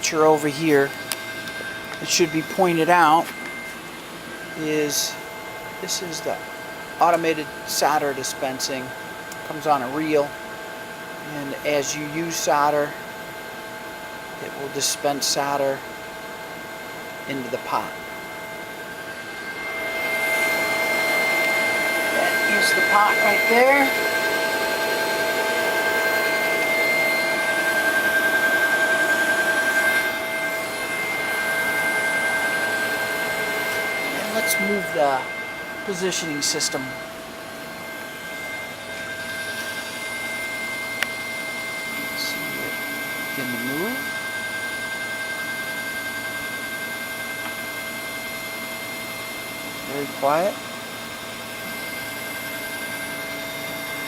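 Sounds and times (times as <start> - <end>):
soldering machine whirring hum: 0.0 - 54.0
steady whining tones: 0.0 - 54.0.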